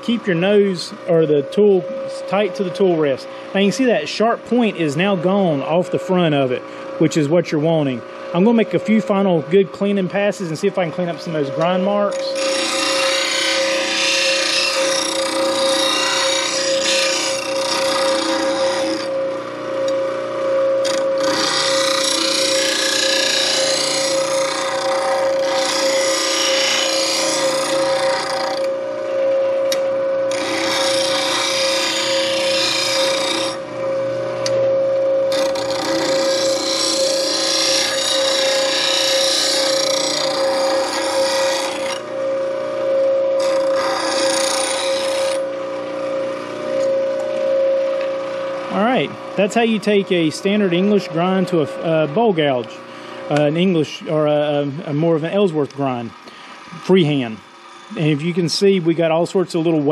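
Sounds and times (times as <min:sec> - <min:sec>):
bench grinder humming: 0:00.0 - 0:59.9.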